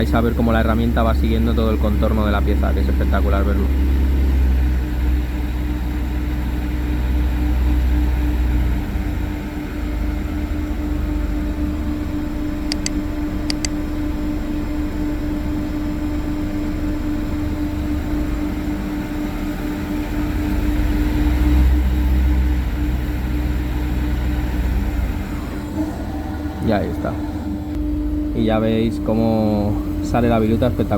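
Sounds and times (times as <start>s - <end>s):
lathe running with steady hum: 0.0s - 30.9s.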